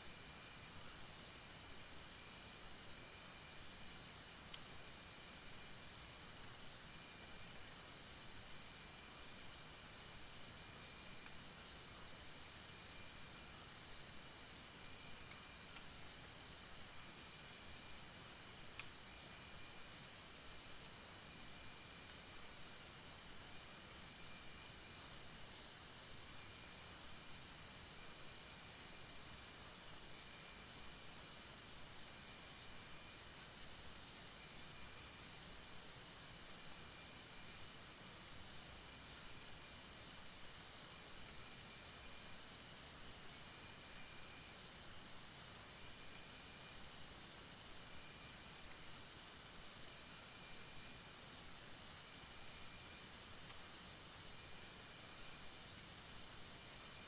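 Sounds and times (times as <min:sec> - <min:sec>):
lower insect chirp: 0:00.0 - 0:57.0.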